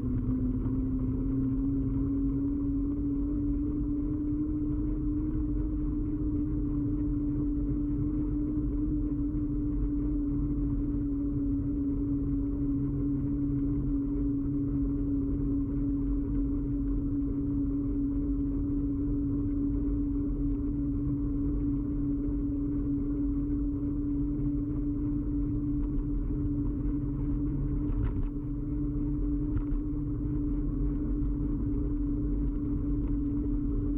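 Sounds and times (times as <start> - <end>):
constant humming tone: 0.0 - 33.9
low rumble of road vibration: 0.0 - 33.9.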